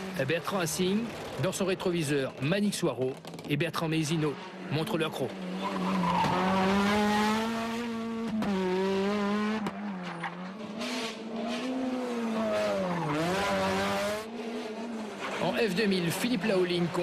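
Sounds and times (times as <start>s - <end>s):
rally car engines revving: 0.0s - 17.0s.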